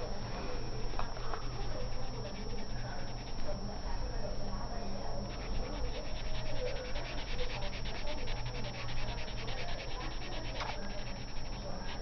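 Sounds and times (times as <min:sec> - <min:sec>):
marker rubbing on paper: 0:01.0 - 0:03.7, 0:05.0 - 0:12.0.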